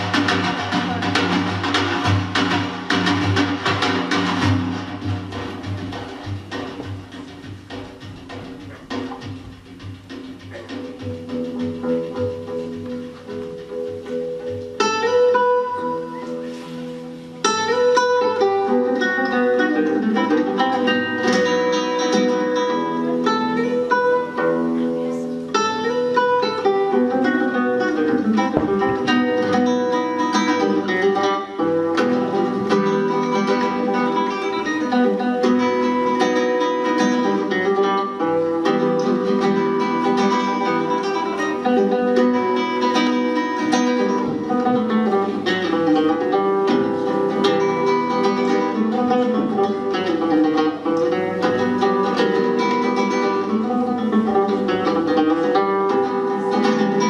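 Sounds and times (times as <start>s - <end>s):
acoustic guitar plucking: 0.0s - 57.0s
frame drum: 0.0s - 57.0s.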